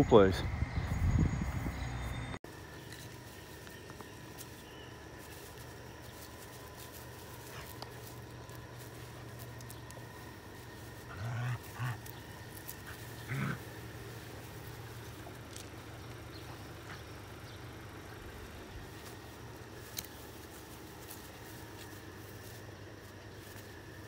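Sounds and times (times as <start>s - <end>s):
faint steady hum: 0.1s - 24.0s.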